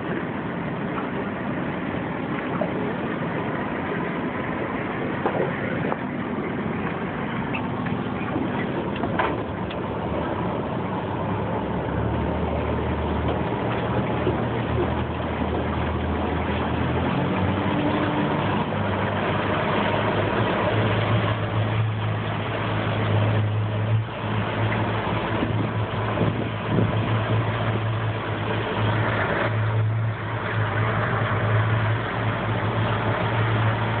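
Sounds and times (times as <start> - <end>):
boat engine running: 0.0 - 34.0.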